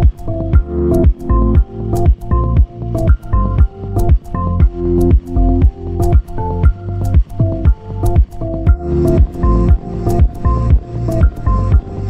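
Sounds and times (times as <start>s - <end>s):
background music with plucked notes: 0.0s - 12.0s.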